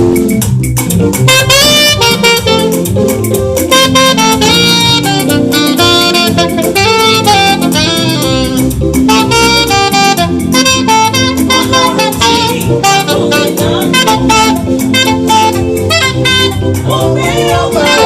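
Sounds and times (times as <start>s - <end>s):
live band with bass and drums: 0.0s - 18.0s
saxophone melody: 0.0s - 18.0s.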